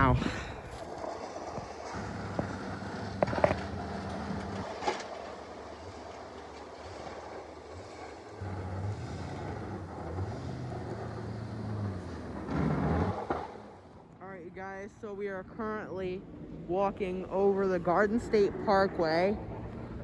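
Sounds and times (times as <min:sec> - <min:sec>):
low rumble of highway traffic: 0:00.0 - 0:20.0.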